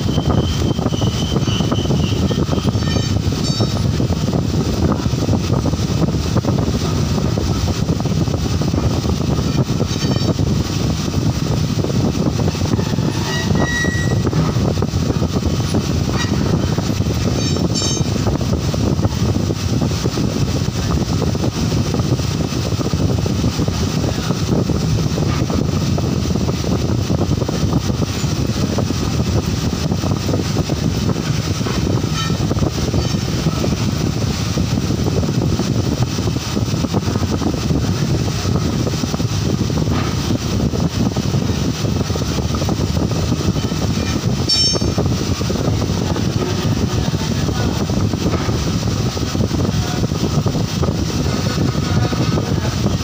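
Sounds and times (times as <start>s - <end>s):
machine fan running: 0.0s - 53.0s.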